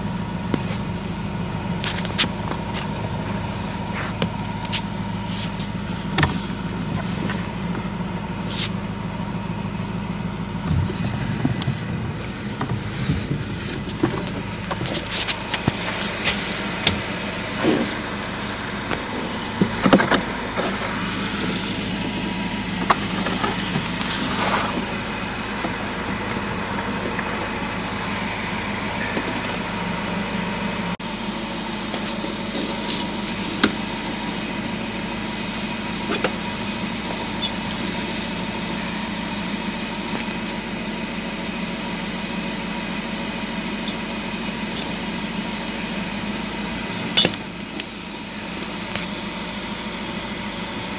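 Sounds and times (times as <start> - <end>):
car machinery humming: 0.0 - 50.9.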